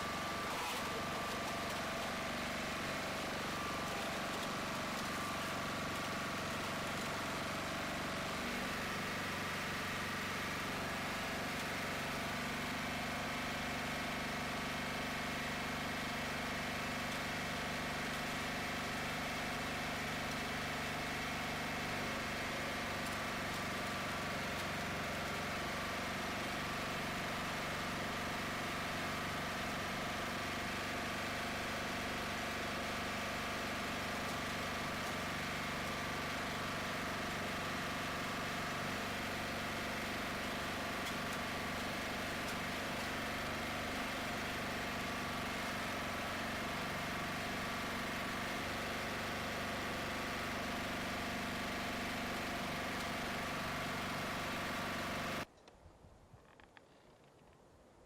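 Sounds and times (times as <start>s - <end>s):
engine running steadily: 0.0s - 55.5s.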